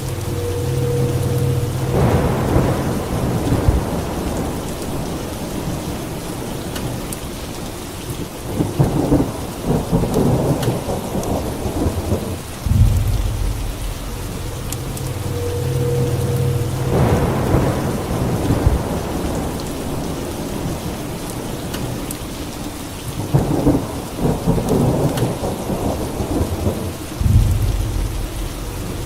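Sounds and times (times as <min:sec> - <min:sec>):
steady rain falling: 0:00.0 - 0:29.0
thunder rumbling and cracking: 0:00.0 - 0:29.0.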